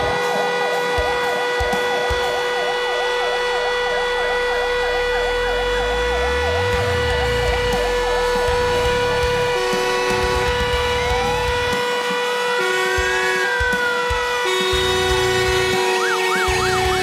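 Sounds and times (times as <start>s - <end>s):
fire engine siren wailing: 0.0s - 17.0s
fire truck engine rumble: 0.0s - 17.0s.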